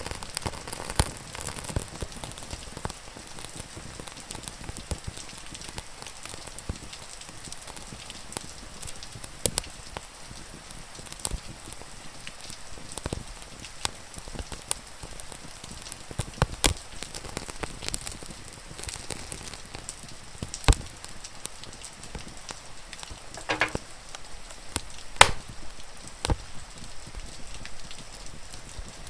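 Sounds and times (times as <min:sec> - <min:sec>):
wood fire crackling and popping: 0:00.0 - 0:11.6, 0:12.3 - 0:26.4.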